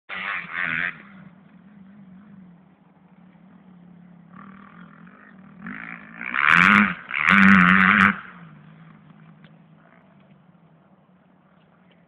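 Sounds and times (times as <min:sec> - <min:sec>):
dirt bike engines revving: 0:00.1 - 0:12.0.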